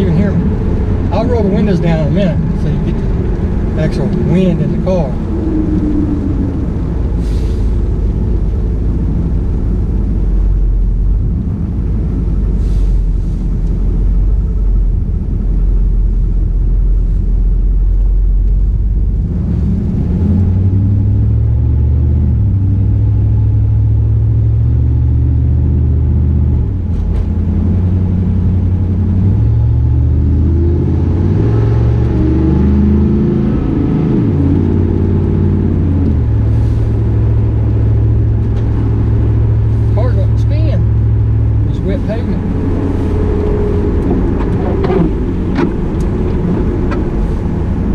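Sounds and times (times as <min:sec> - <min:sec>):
car engine running: 0:00.0 - 0:30.2, 0:34.1 - 0:47.9
road rumble: 0:00.0 - 0:47.9.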